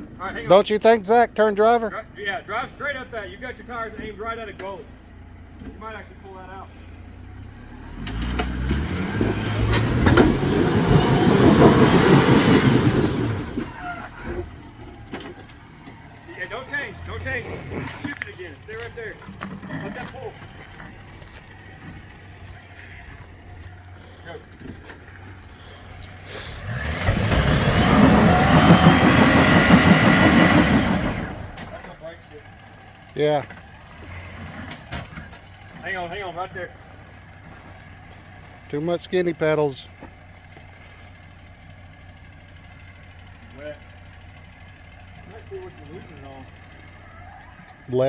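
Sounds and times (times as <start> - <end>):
off-road engine revving: 0.0 - 48.0
tires grinding over rock: 1.6 - 48.0.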